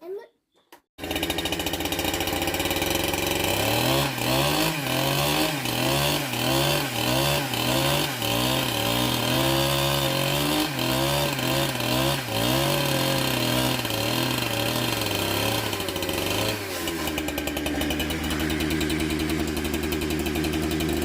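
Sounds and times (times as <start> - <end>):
chainsaw cutting wood: 1.0 - 21.0.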